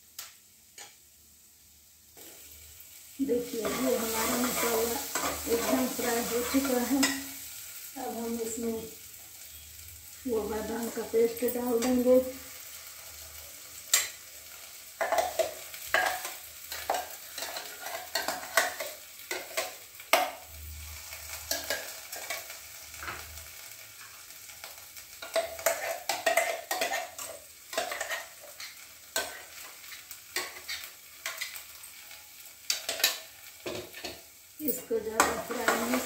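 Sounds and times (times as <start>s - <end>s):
frying sizzle: 0.0s - 36.0s.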